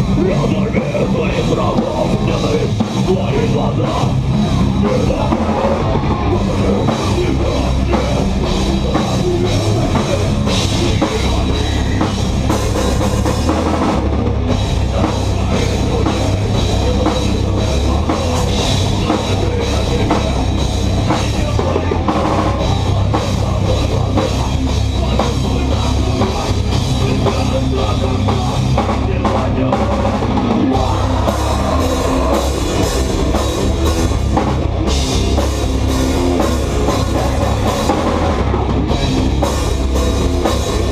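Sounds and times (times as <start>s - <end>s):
heavy drums: 0.0s - 40.9s
loud rock band playing: 0.0s - 40.9s.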